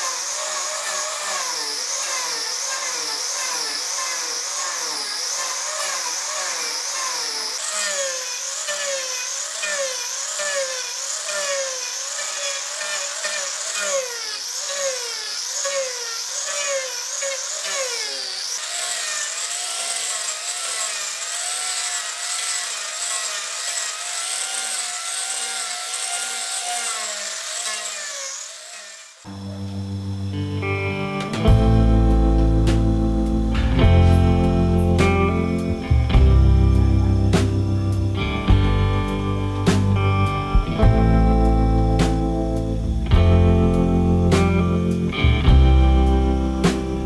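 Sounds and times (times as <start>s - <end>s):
angle grinder carving wood: 0.0s - 47.0s.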